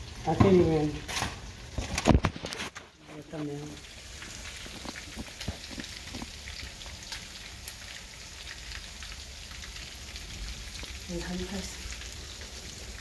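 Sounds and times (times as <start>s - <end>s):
chicken wings sizzling in oil: 0.0s - 13.0s.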